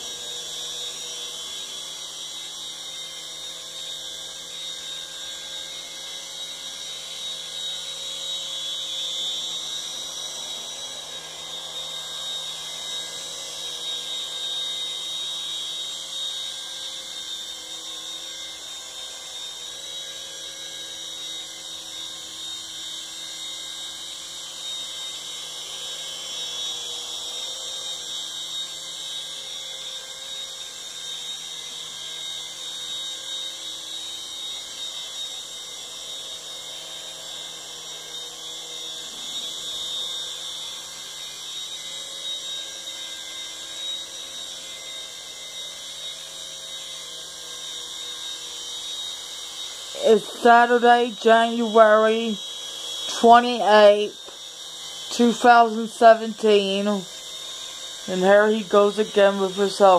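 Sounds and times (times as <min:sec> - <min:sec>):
toy helicopter motor whine: 0:00.0 - 0:59.9.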